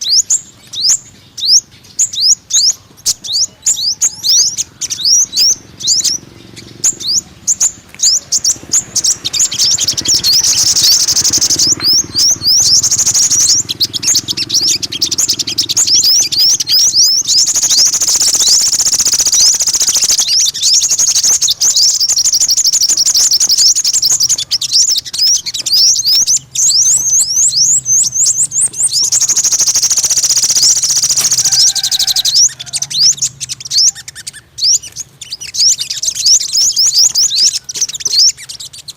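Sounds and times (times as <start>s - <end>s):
bird twittering and trilling: 0.0s - 38.9s.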